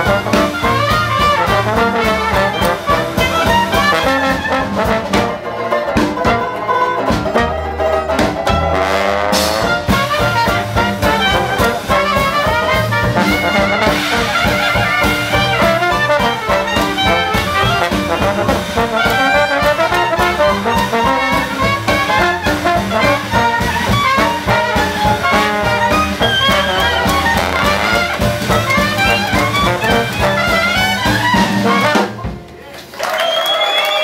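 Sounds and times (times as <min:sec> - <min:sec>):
dixieland jazz band playing: 0:00.0 - 0:32.6.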